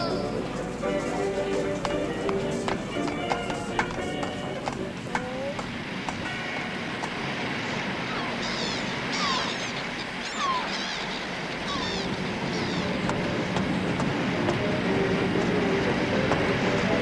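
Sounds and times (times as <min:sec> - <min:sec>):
birds calling: 0:00.0 - 0:16.3
sea waves: 0:00.0 - 0:17.0.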